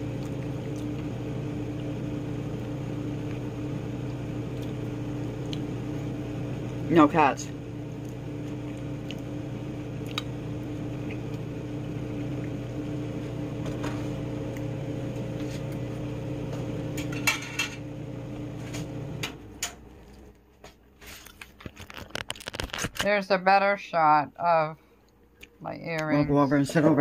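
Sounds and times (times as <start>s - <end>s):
appliance motor hum: 0.0s - 27.0s.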